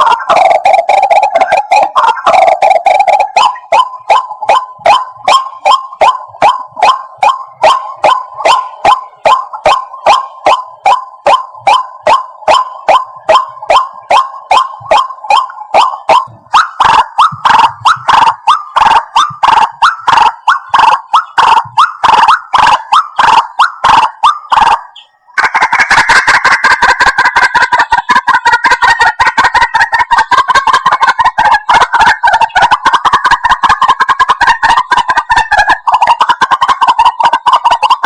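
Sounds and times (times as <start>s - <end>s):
waterhen calling loudly: 0.0s - 24.8s, 25.4s - 38.0s.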